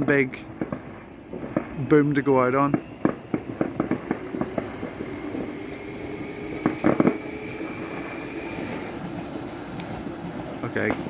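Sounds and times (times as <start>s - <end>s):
background rumble: 0.0s - 11.0s
distant fireworks popping: 0.0s - 11.0s.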